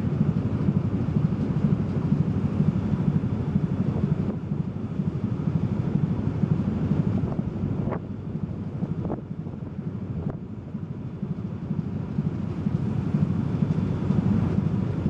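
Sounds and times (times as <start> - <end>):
ship engine rumble: 0.0 - 15.0
wind buffeting microphone: 0.2 - 15.0.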